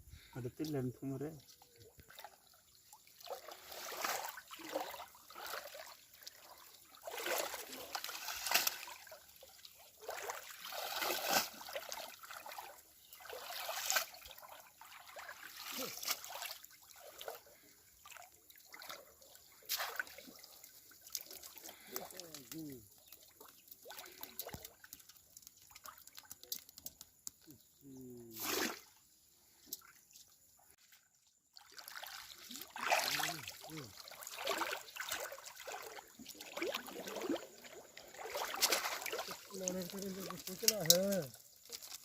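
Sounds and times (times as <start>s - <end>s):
water sloshing and splashing: 0.2s - 27.5s, 28.4s - 42.0s.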